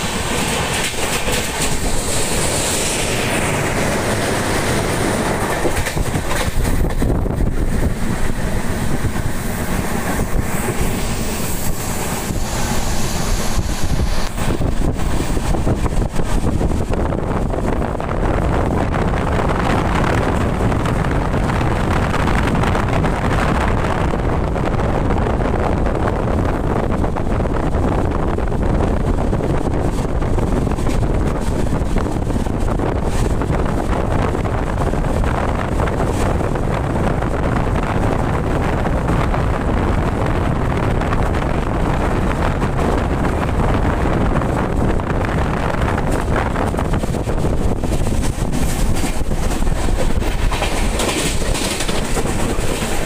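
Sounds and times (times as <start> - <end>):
passenger train rumbling: 0.0 - 53.0
wind buffeting microphone: 0.0 - 53.0.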